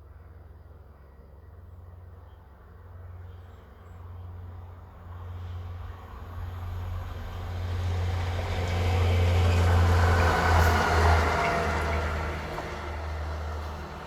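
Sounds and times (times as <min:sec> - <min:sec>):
train engine rumble passing: 0:00.3 - 0:14.0.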